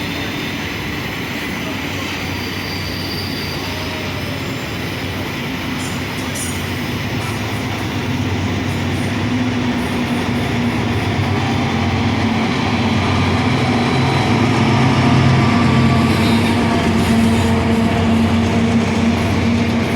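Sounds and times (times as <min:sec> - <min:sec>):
train engine drone: 0:00.0 - 0:19.9
train wheels rumbling: 0:00.0 - 0:19.9.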